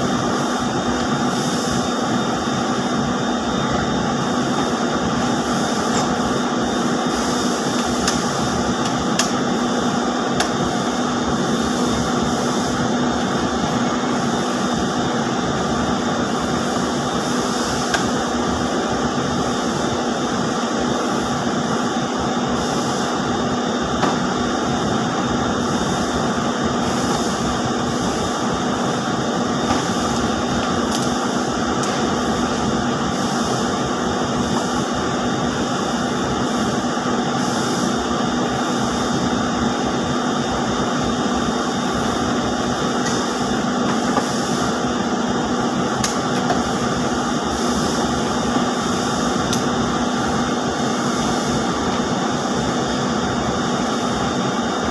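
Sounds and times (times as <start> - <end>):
fans and spindles hissing: 0.0 - 54.9
spinning mill machinery drone: 0.0 - 54.9.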